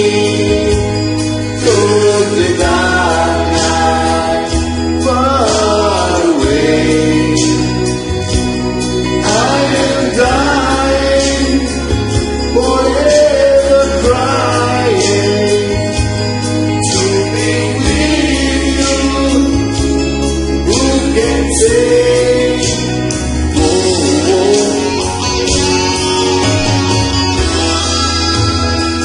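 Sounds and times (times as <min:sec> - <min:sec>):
backing track with bass and beat: 0:00.0 - 0:29.0
person singing karaoke: 0:00.0 - 0:29.0.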